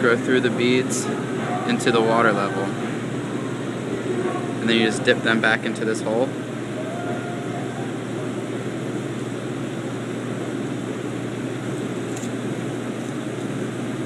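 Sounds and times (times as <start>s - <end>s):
low machine drone: 0.0s - 14.0s.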